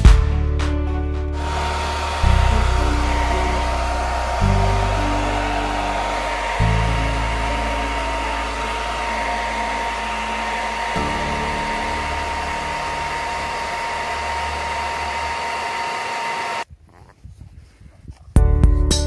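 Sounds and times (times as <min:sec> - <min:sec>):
hair dryer blowing: 0:01.4 - 0:16.6.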